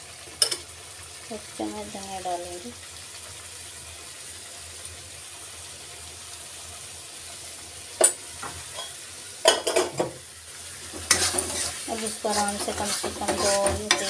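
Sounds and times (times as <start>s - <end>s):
paste frying in oil: 0.0s - 14.0s.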